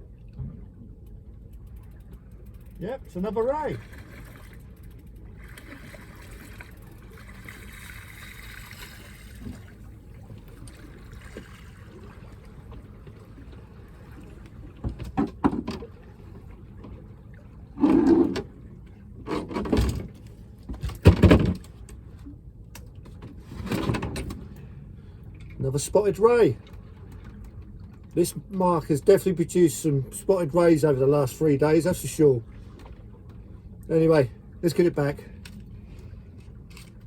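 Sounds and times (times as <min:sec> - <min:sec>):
water lapping around boat: 0:00.0 - 0:37.0.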